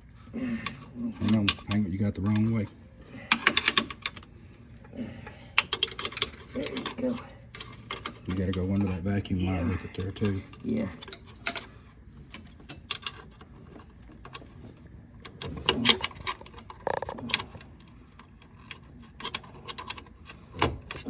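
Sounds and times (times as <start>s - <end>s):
light clicks and metallic rattles: 0.4s - 21.0s.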